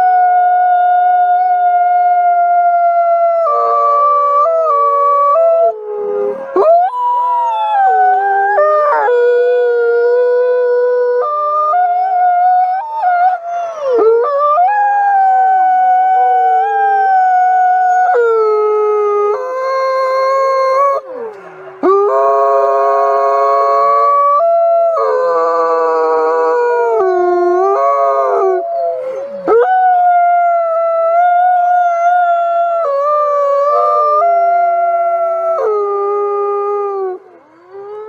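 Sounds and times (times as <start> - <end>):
wolves howling in chorus: 1.5 - 38.0.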